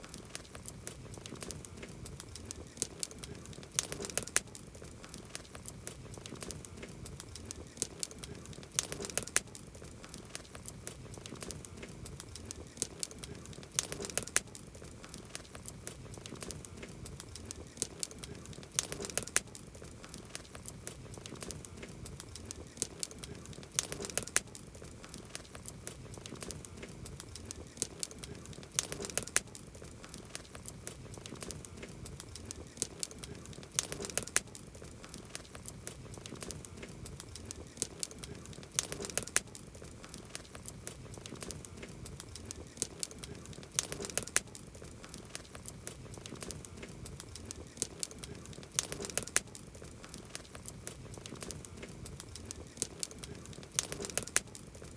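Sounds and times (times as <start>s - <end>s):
campfire crackling: 0.0s - 54.9s
soft hiss of fire: 0.0s - 54.9s.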